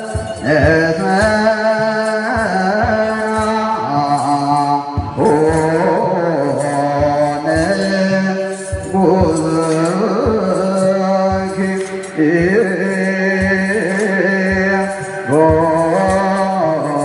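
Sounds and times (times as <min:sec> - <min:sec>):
person singing ornamented melody: 0:00.0 - 0:17.0.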